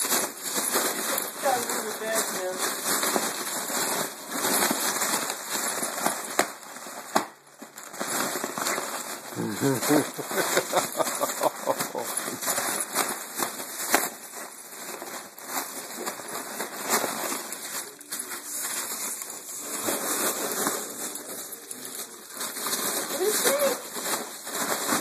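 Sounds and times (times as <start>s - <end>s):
foil balloon crinkling: 0.0s - 25.0s.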